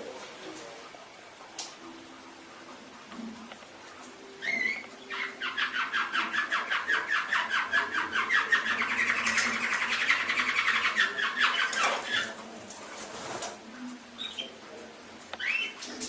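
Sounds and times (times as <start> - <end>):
canary singing: 1.1 - 16.0.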